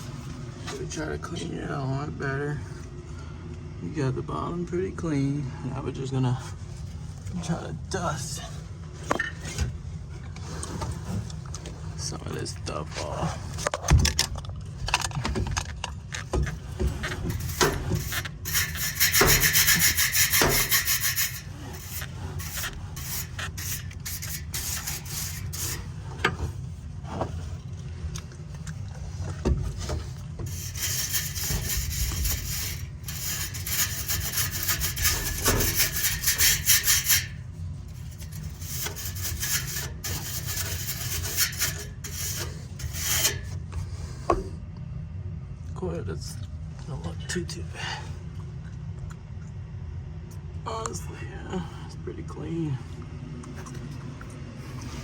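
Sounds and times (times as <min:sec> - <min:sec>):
raspy scrubbing of blower vanes: 0:00.0 - 0:44.6.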